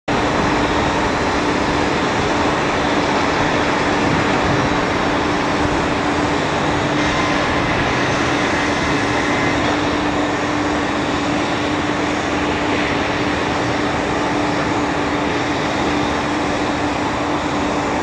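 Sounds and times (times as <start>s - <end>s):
jet engines roaring on takeoff: 0.1s - 18.0s.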